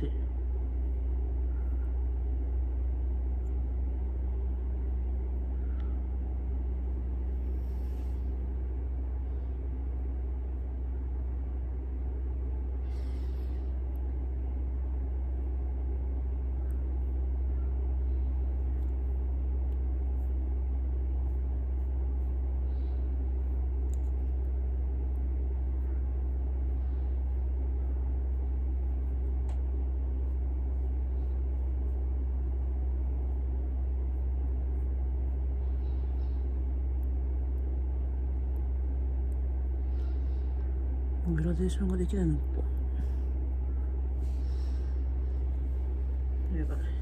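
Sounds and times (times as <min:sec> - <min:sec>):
low background rumble: 0:00.0 - 0:47.0.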